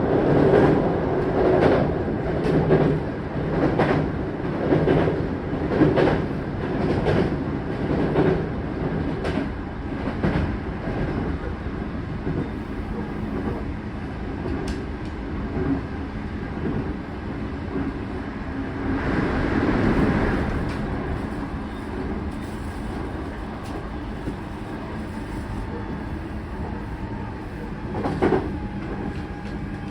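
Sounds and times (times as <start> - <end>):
train running rumble: 0.0 - 29.9.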